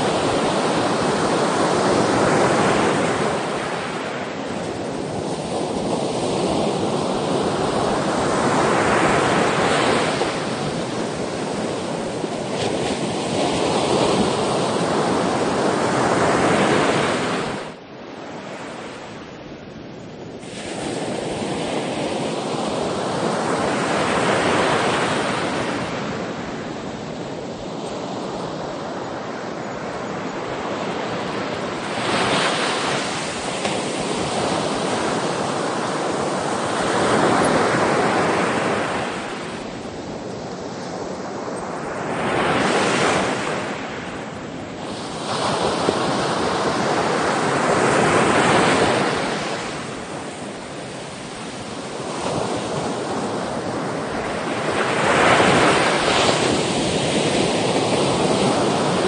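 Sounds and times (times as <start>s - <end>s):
sea waves breaking: 0.0s - 19.3s, 20.3s - 59.0s.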